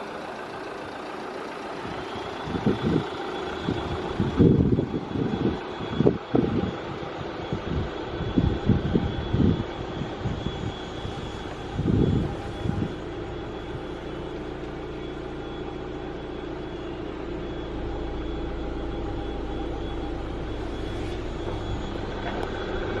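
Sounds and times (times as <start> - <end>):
mechanical hum: 2.4 - 23.0.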